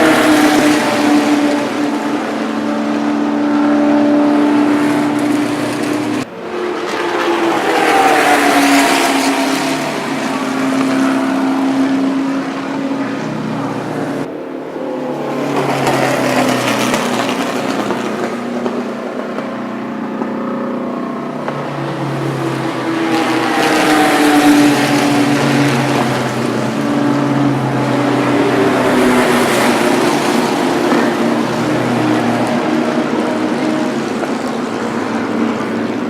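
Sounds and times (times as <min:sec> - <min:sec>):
race car engines at high revs: 0:00.0 - 0:36.0.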